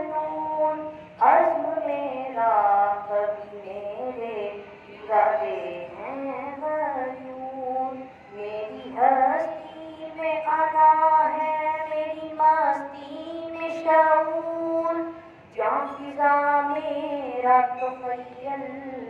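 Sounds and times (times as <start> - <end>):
boy singing: 0.0 - 19.0.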